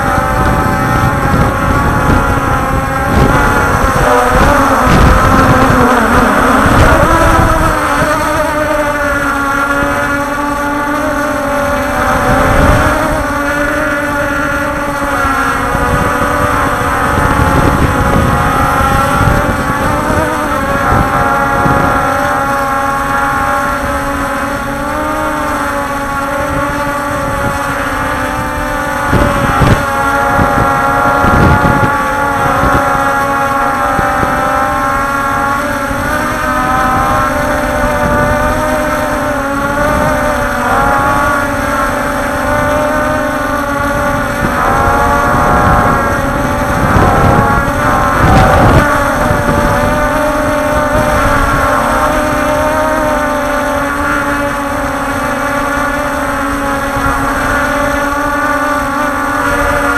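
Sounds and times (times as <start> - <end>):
multirotor propellers whining: 0.0 - 59.9
wind buffeting microphone: 0.0 - 59.9.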